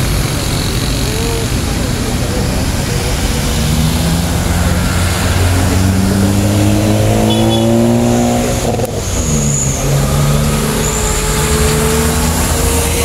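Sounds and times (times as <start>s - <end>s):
vehicle engine accelerating through gears: 0.0s - 13.0s.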